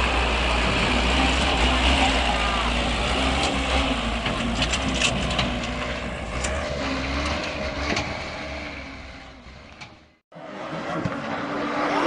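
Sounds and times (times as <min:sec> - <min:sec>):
another vehicle: 0:00.0 - 0:12.0
vehicle engine rumbling: 0:00.0 - 0:12.0.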